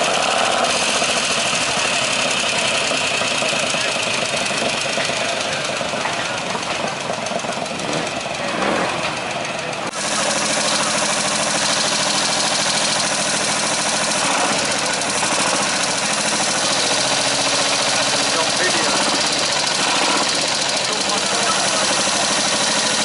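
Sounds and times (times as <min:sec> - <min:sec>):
engine idling close up: 0:00.0 - 0:23.0.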